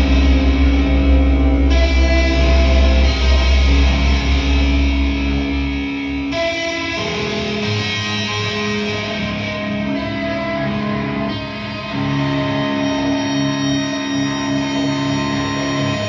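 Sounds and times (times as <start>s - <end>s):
electric guitar sustained notes: 0.0s - 16.0s
heavy bass: 0.0s - 16.0s.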